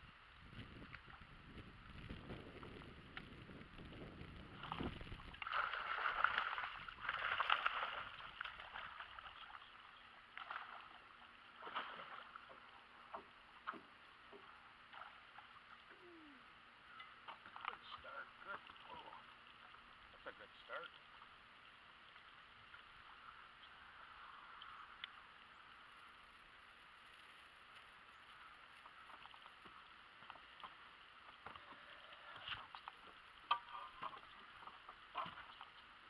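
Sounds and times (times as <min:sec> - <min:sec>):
fish splashing and thrashing: 0:04.4 - 0:15.9, 0:17.1 - 0:20.0, 0:21.0 - 0:36.0.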